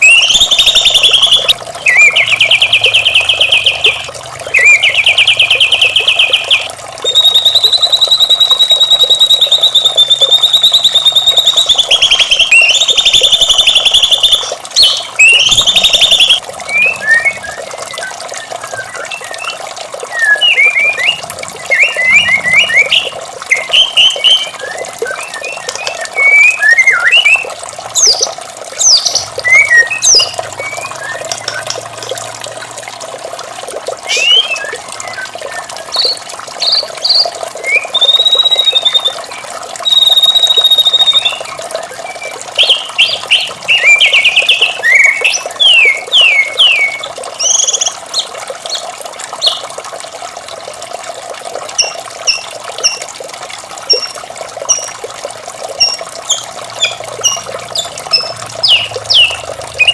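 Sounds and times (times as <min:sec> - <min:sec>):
bird singing trills and whistles: 0:00.0 - 0:31.8, 0:34.0 - 0:49.6, 0:51.8 - 0:53.0, 0:53.9 - 0:55.0, 0:55.8 - 0:59.9
running water: 0:00.0 - 0:59.9.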